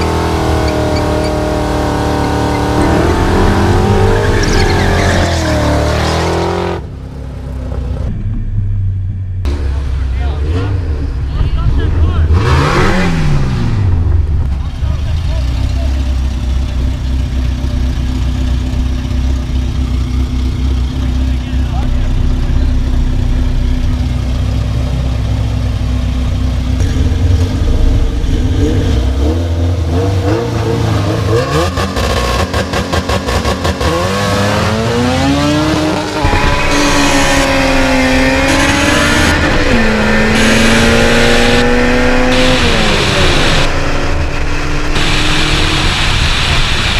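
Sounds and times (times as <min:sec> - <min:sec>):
engine at full throttle upshifting: 0:00.0 - 0:08.4, 0:09.4 - 0:46.9
drag car engines revving: 0:00.0 - 0:46.9.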